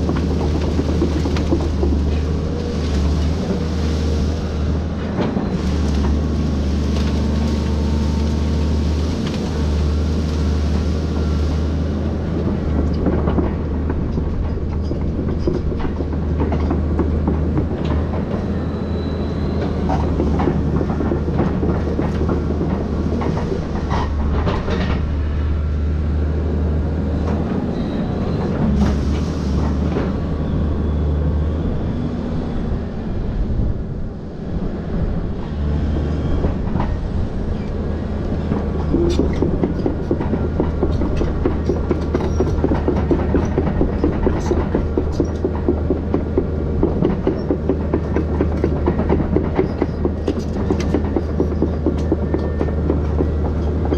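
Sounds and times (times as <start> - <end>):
excavator engine humming: 0.0 - 53.9.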